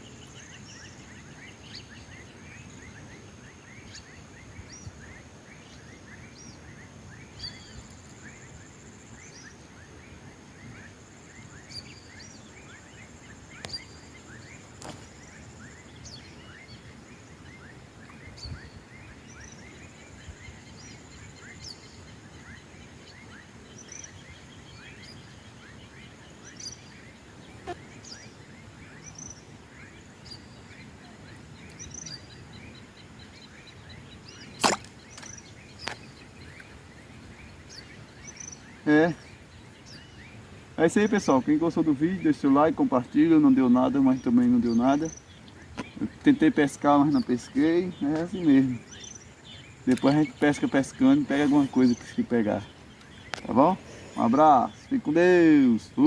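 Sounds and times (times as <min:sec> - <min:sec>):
birds chirping: 0:00.0 - 0:56.0
outdoor hiss: 0:00.0 - 0:56.0.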